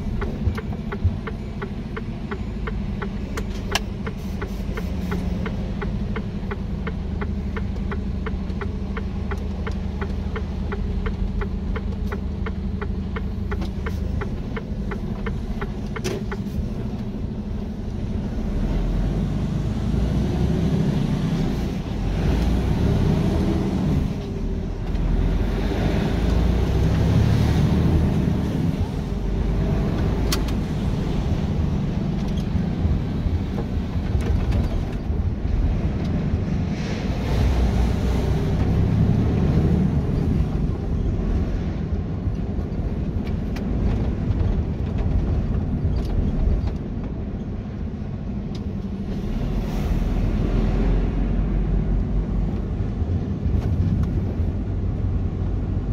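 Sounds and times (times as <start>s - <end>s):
truck engine and road noise: 0.0s - 55.9s.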